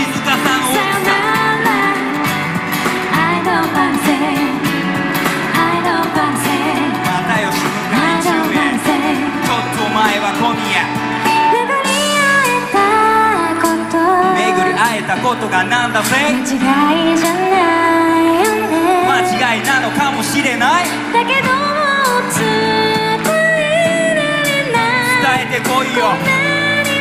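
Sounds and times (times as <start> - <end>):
acoustic guitar: 0.0 - 27.0
band playing: 0.0 - 27.0
woman singing pop melody: 0.0 - 27.0.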